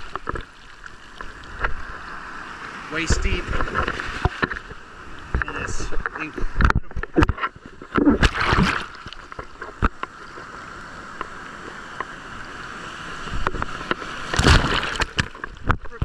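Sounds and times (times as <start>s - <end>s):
sea water sloshing and splashing: 0.0s - 16.0s.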